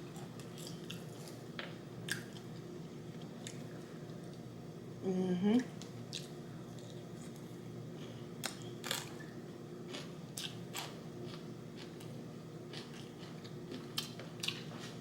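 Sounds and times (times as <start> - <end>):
crunching and chewing food: 0.0 - 4.4, 6.0 - 15.0
low background hum: 0.0 - 15.0.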